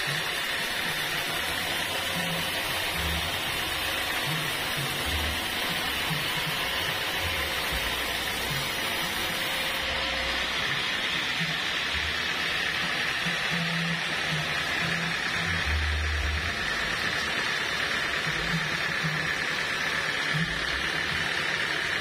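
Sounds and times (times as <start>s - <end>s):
band sawmill cutting wood: 0.0s - 22.0s.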